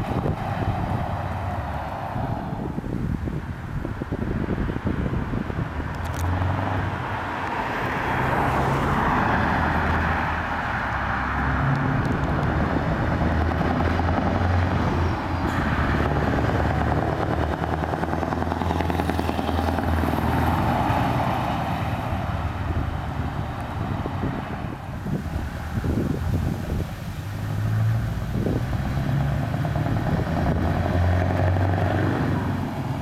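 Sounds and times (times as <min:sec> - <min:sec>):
trucks driving past slowly: 0:00.0 - 0:33.0.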